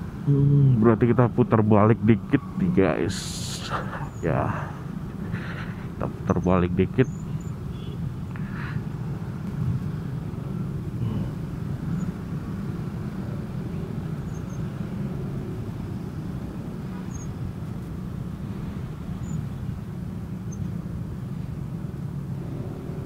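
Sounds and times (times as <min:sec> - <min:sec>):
vehicle rumble: 0:00.0 - 0:23.0.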